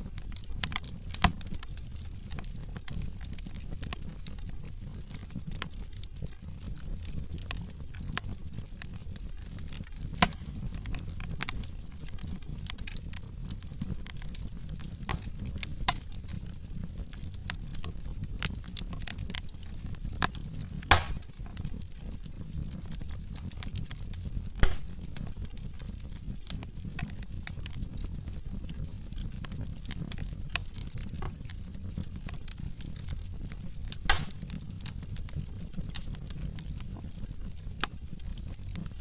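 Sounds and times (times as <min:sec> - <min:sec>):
fire burning with crackles and pops: 0:00.0 - 0:39.0.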